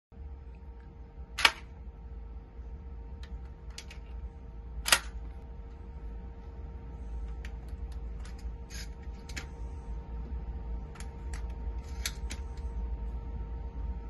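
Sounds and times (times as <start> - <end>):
low hum: 0.1 - 14.0.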